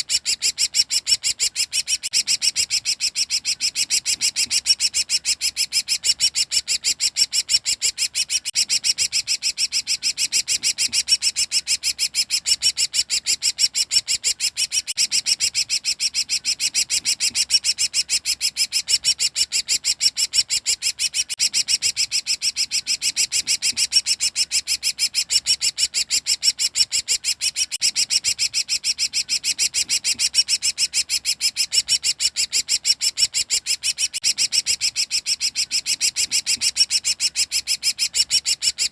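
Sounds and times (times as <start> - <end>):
bird rapid high chatter: 0.0 - 38.9.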